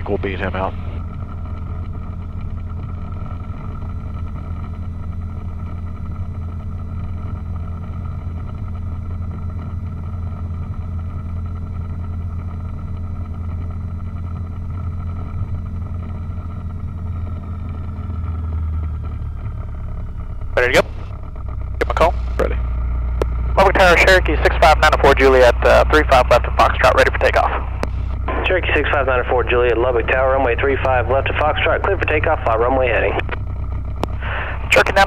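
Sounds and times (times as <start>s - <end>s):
light aircraft engine humming: 0.0s - 35.0s.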